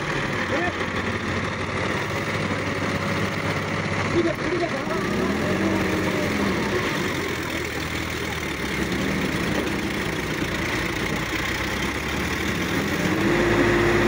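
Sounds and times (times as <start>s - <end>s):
tractor diesel engines under load: 0.0s - 14.0s.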